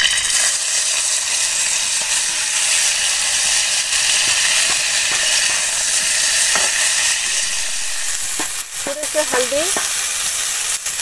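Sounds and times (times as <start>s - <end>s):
beans sizzling in hot oil: 0.0s - 11.0s.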